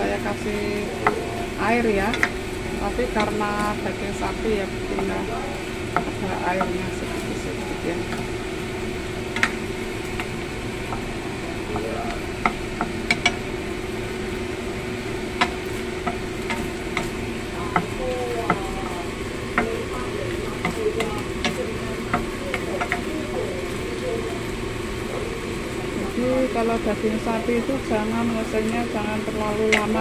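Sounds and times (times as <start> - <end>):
beef sizzling: 0.0 - 30.0
steady hum: 0.0 - 30.0.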